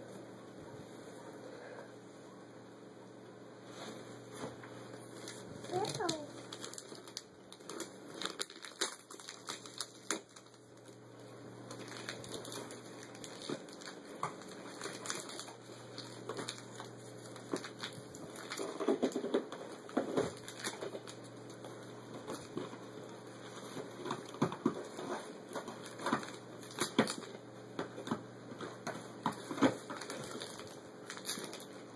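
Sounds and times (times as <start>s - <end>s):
wrapping paper crinkling and tearing: 5.1s - 11.0s, 11.6s - 27.4s, 28.0s - 31.9s.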